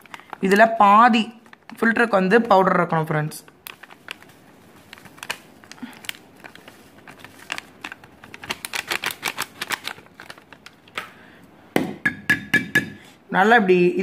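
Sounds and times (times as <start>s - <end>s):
plastic packet crinkling: 0.0s - 11.3s.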